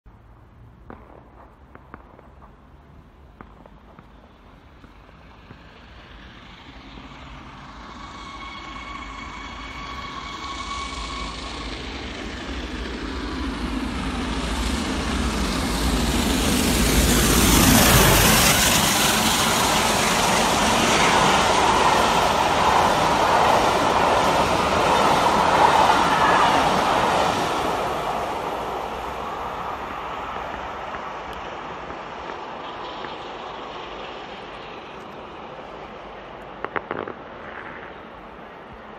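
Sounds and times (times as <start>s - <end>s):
train coaches rolling past: 0.2s - 38.9s
steam locomotive passing: 1.1s - 38.9s.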